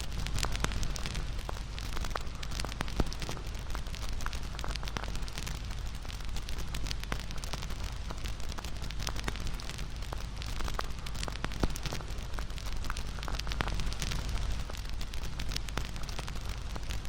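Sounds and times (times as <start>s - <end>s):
fire crackling and popping: 0.0s - 17.0s
wood fire rumbling: 0.0s - 17.0s.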